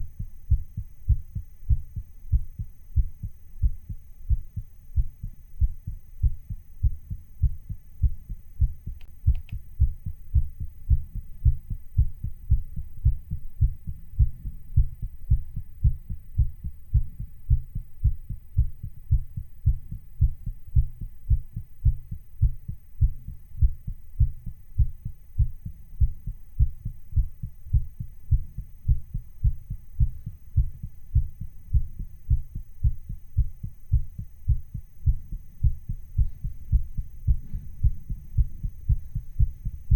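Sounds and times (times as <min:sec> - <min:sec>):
fast heartbeat: 0:00.0 - 0:39.9.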